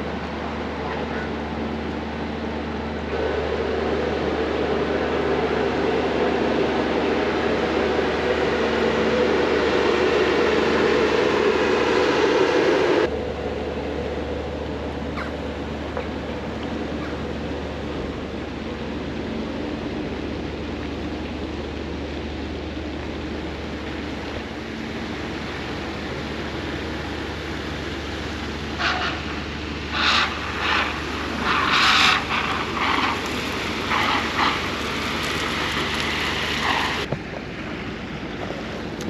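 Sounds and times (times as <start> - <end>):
boat engine humming: 0.0 - 39.0
rushing splashing water jet: 0.0 - 39.0.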